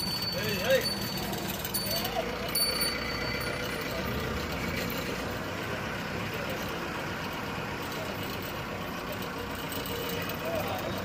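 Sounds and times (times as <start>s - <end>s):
hum of busy parking ground: 0.0s - 11.0s
vehicle engine running: 0.0s - 11.0s.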